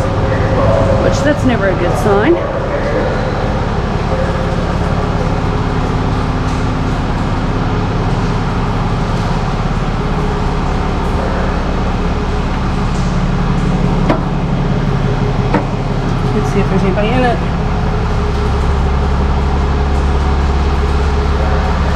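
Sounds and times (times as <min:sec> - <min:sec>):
truck engine running: 0:00.0 - 0:21.9.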